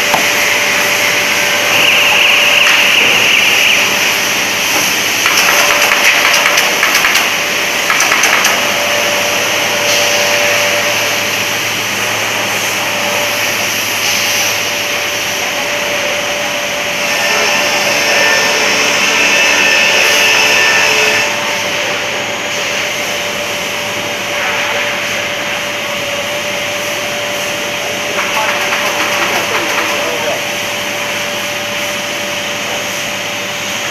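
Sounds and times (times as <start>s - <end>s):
machine whirring and humming: 0.0s - 33.9s.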